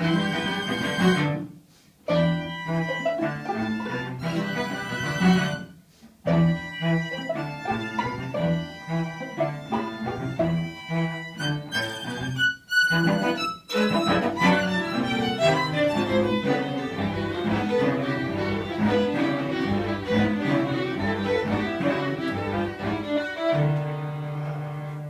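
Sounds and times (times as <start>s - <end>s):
string quartet playing: 0.0s - 1.5s, 2.1s - 25.0s.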